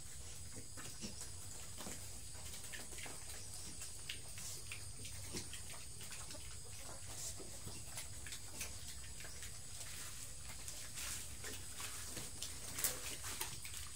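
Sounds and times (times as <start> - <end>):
piglets chewing and rooting: 0.0 - 13.9.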